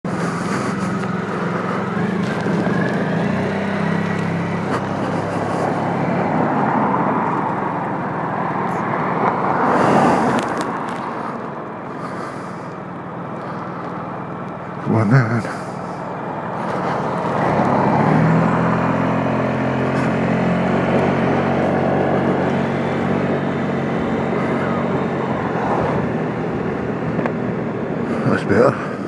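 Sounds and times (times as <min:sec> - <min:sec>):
scooter engine hum: 0:00.0 - 0:29.0.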